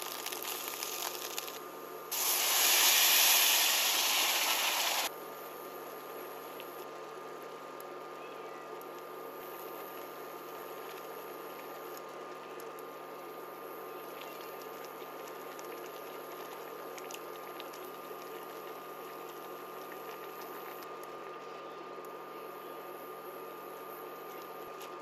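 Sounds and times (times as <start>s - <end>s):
broth bubbling in a pot: 0.0s - 25.0s
faint high hum: 0.0s - 25.0s.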